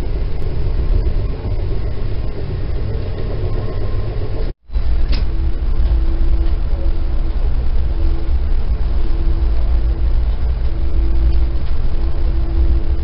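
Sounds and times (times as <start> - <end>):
faint steady hum: 0.0 - 13.0
passenger train rumbling: 0.0 - 13.0.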